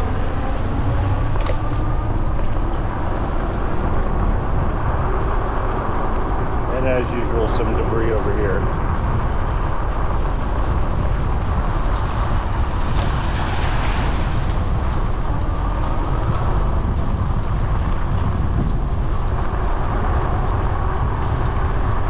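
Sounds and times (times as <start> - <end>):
vehicle road and engine noise: 0.0 - 22.0.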